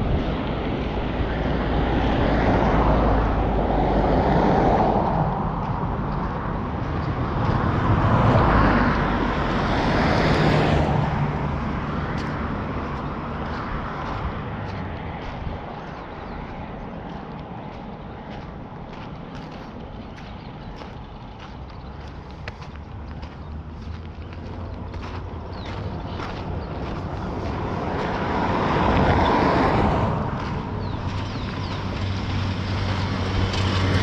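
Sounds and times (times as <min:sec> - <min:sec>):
engine hum: 0:00.0 - 0:34.0
vehicles passing close by: 0:00.0 - 0:34.0.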